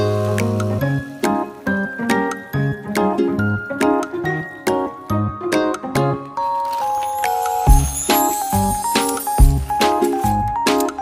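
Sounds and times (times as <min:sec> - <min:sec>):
light instrumental music: 0:00.0 - 0:11.0.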